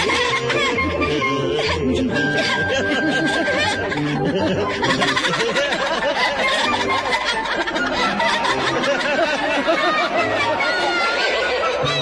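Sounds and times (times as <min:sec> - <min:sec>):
cartoon voices giggling and chattering: 0:00.0 - 0:12.0
light background music: 0:00.0 - 0:12.0.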